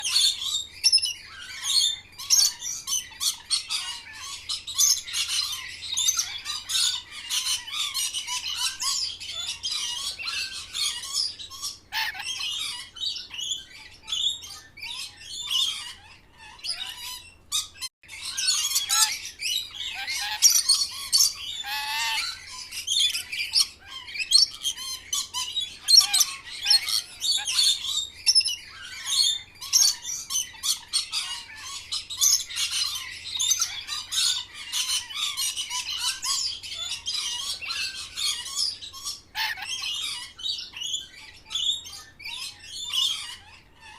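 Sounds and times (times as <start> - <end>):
parrot squawks and chirps: 0.0 - 43.9.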